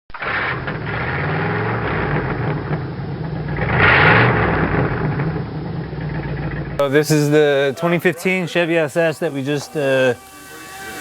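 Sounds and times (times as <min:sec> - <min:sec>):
engine idling: 0:00.1 - 0:11.0
engine revving: 0:00.1 - 0:11.0.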